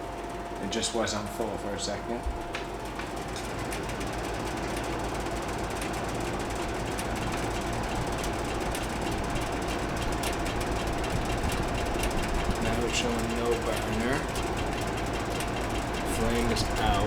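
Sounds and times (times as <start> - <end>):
heater fan whirring hum: 0.0 - 17.0.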